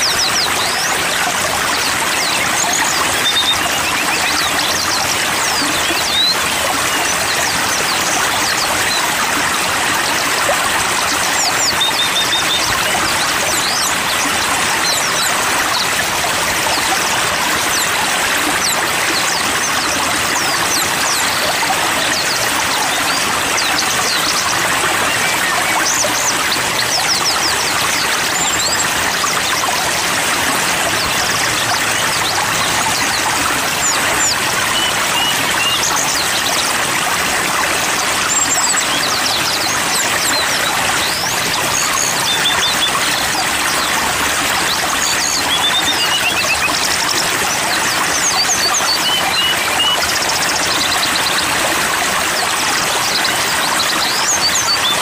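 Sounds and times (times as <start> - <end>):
songbirds chirping: 0.0 - 55.0
stream water rushing: 0.0 - 55.0.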